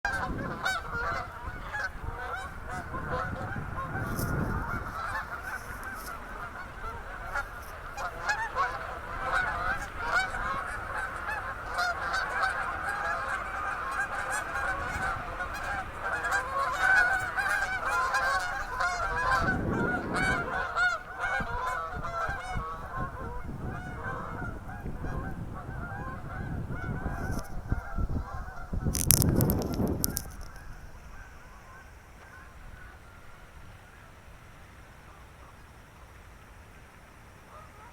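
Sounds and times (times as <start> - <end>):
flock of birds calling: 0.1 - 34.0.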